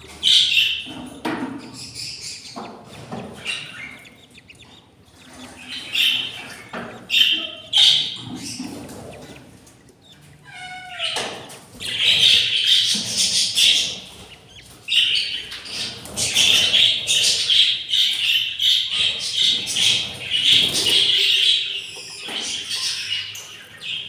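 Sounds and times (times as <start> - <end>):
budgerigars chirping and squawking: 0.0 - 24.0.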